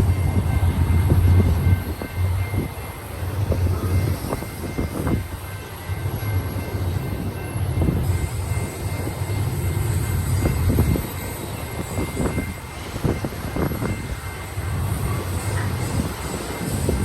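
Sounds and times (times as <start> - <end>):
freight train rumble: 0.0 - 17.0.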